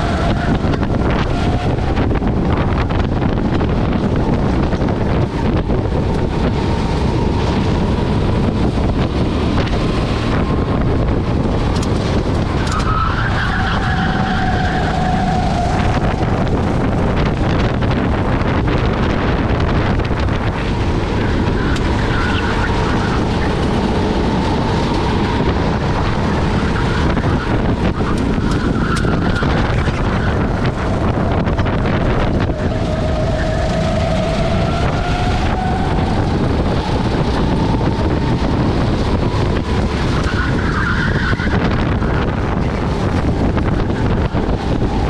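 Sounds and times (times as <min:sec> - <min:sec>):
go-kart engine running hard: 0:00.0 - 0:45.0
wind on microphone: 0:00.0 - 0:45.0.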